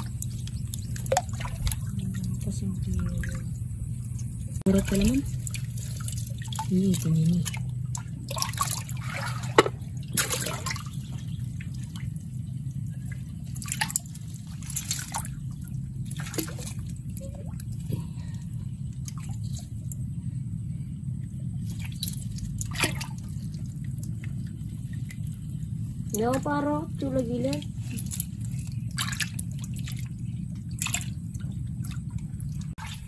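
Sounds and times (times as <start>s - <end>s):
water splashing and dripping: 0.0s - 20.1s, 21.5s - 33.0s
steady low hum: 0.0s - 33.0s.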